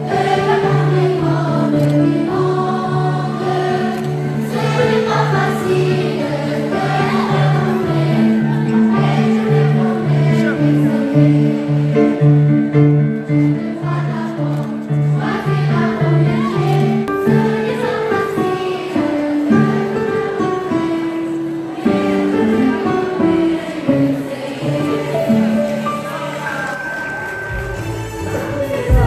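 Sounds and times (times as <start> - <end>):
choir singing in unison: 0.0 - 29.0
instrumental accompaniment: 0.0 - 29.0.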